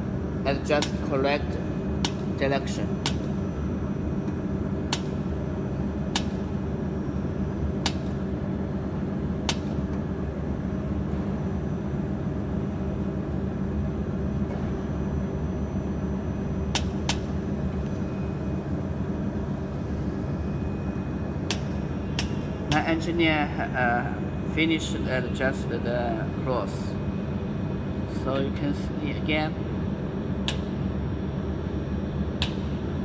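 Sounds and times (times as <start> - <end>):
laser welding machine humming: 0.0 - 33.0.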